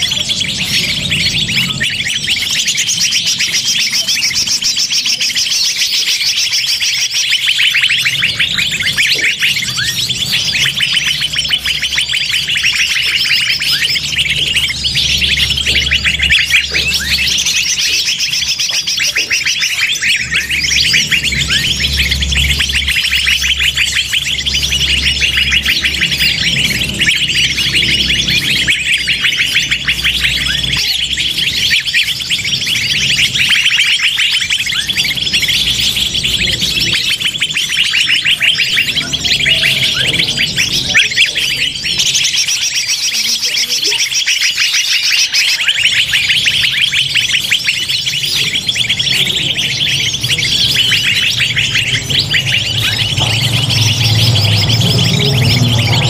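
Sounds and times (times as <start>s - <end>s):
many small birds chirping: 0.0s - 56.0s.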